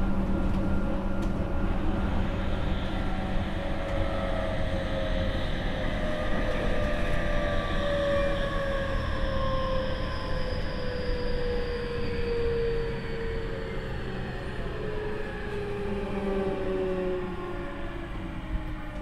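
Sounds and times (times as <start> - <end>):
train traction motors whining: 0.0 - 19.0.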